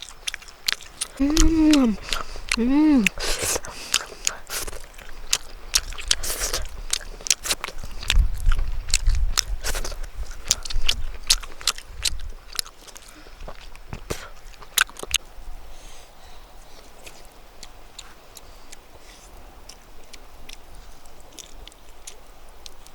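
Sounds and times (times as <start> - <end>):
crisp chewing crunches: 0.0 - 15.3, 16.6 - 22.9.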